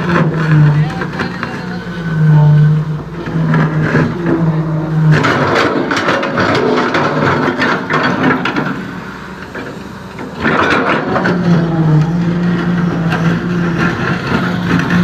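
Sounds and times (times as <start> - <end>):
heavy machine engine hum: 0.0 - 15.0
road surface cracking and scraping: 0.0 - 15.0.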